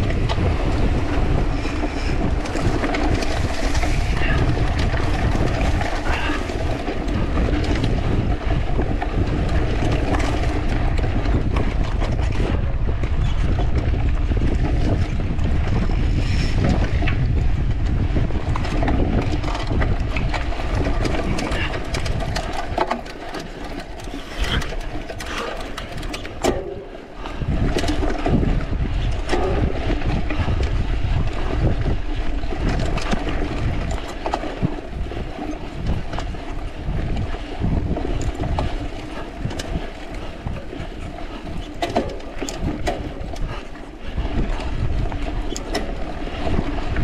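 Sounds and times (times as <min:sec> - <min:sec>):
bike rattling over bumps: 0:00.0 - 0:47.0
bike tyre noise: 0:00.0 - 0:47.0
wind rumbling on microphone: 0:00.0 - 0:47.0.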